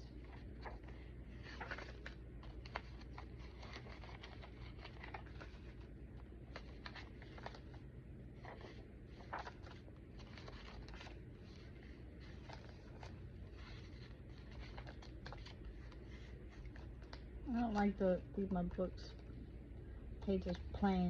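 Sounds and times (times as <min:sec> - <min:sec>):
paper pages turning: 0:00.0 - 0:18.0
low steady hum: 0:00.0 - 0:21.0.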